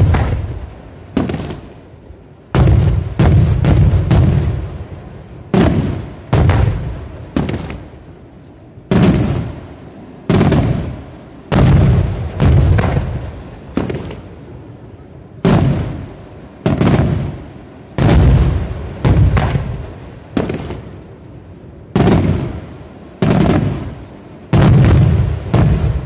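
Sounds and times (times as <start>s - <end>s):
firework shells booming: 0.0s - 8.2s, 8.9s - 14.5s, 15.4s - 21.2s, 21.9s - 26.0s
rolling echo: 0.0s - 26.0s.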